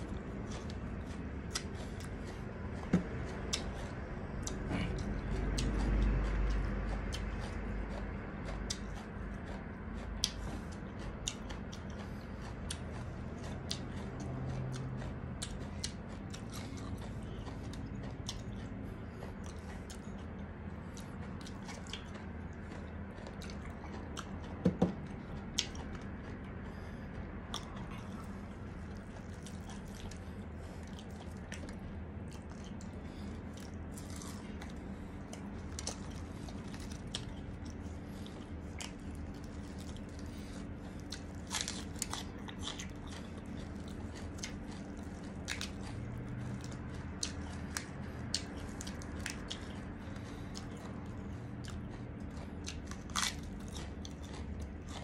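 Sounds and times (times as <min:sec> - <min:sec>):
chewing and crunching fried food: 0:00.0 - 0:55.0.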